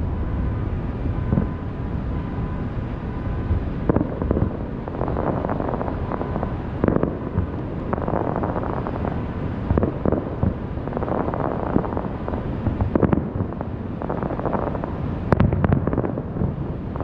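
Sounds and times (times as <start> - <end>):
wind noise on microphone: 0.0 - 17.0
fireworks booming: 0.2 - 1.6, 3.2 - 17.0.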